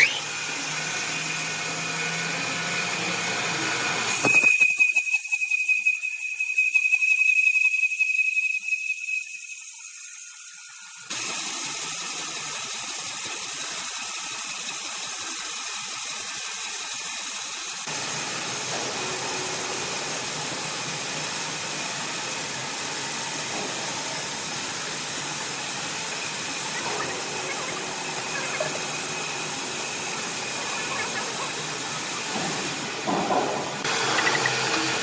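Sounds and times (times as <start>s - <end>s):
sawmill machinery running: 0.0s - 35.0s.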